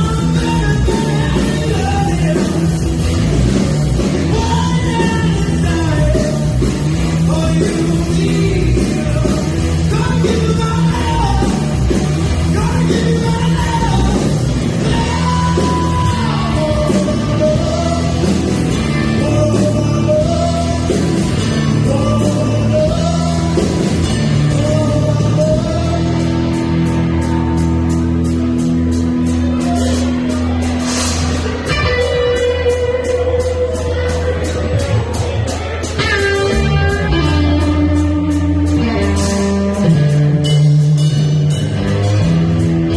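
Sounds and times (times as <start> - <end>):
person singing: 0.0 - 2.9, 4.0 - 27.9, 31.6 - 41.3
live rock band playing: 0.0 - 42.9.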